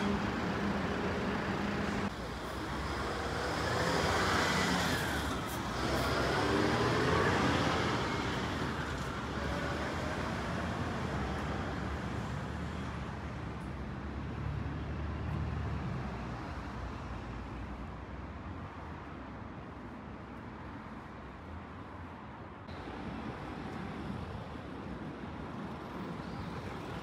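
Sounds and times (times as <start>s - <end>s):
low traffic hum: 0.0s - 27.0s
vehicles passing close by: 0.0s - 27.0s.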